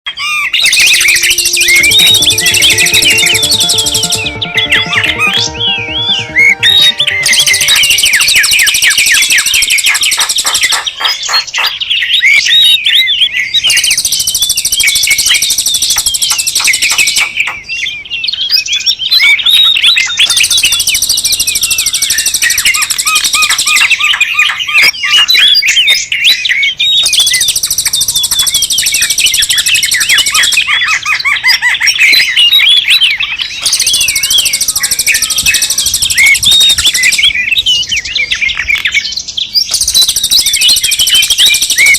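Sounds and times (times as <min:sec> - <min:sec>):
small birds chirping: 0:07.0 - 0:41.9.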